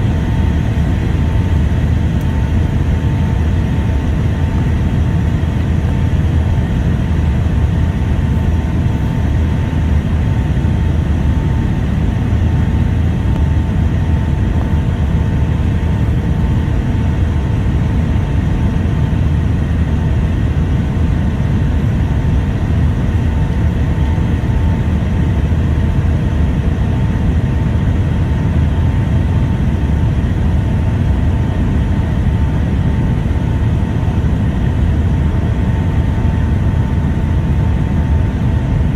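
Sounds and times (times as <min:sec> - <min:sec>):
airliner cabin rumble: 0:00.0 - 0:38.9
faint steady whine: 0:00.0 - 0:38.9.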